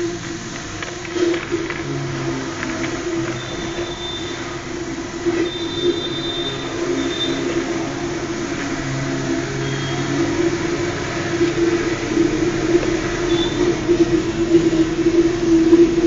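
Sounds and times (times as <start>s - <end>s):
mechanical hum with low drone: 0.0s - 16.0s.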